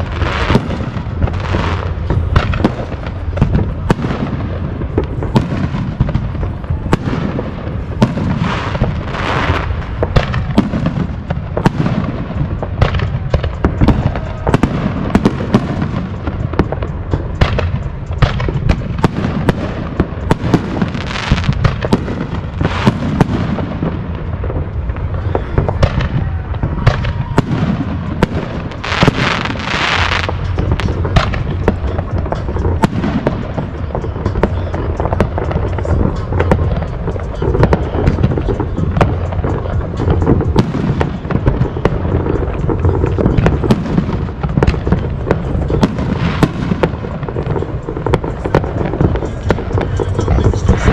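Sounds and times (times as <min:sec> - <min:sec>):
fireworks bangs and booms: 0:00.0 - 0:50.9
fireworks crackling bursts: 0:00.0 - 0:50.9.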